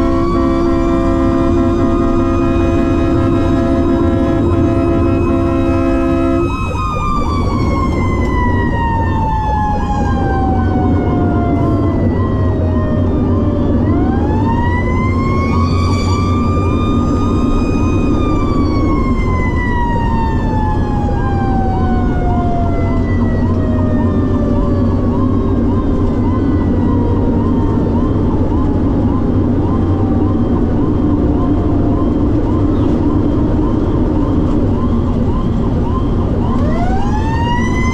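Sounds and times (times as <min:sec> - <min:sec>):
electronic siren cycling: 0:00.0 - 0:37.9
engine drone: 0:00.0 - 0:37.9
mechanical siren winding down: 0:00.0 - 0:37.9.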